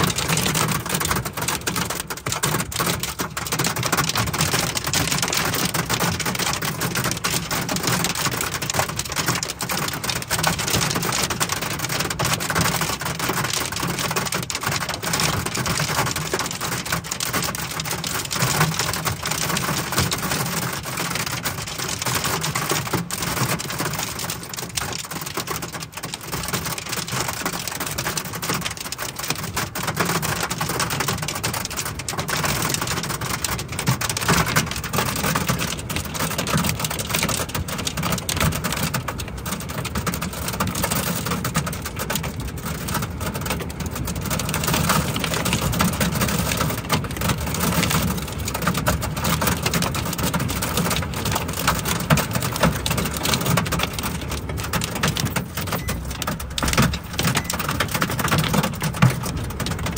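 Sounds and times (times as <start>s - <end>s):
heavy rain pelting car roof: 0.0s - 59.9s.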